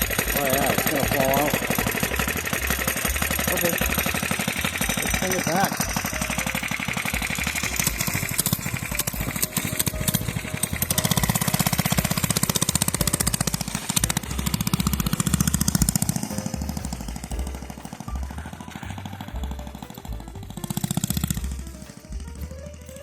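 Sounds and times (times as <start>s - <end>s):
mini bike engine running: 0.0s - 23.0s.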